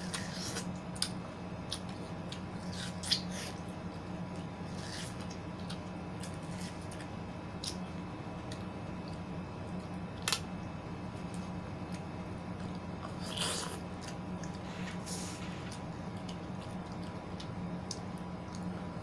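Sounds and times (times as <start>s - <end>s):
chewing juicy fruit: 0.0s - 10.5s, 11.1s - 19.0s
steady low hum: 0.0s - 19.0s.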